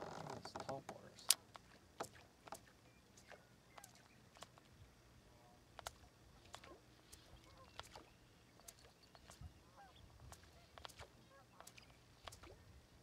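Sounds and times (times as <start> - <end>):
faint ticks and clicks: 0.0 - 4.7, 5.7 - 9.5, 10.3 - 12.6.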